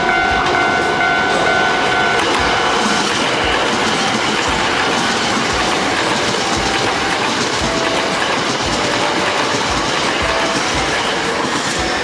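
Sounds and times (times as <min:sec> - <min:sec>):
train running rumble: 0:00.0 - 0:12.0
wheels clacking over rail joints: 0:00.0 - 0:12.0.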